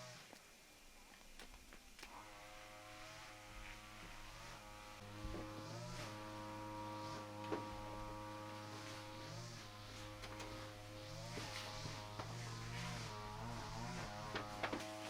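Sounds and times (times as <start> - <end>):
small engine running: 2.1 - 15.0.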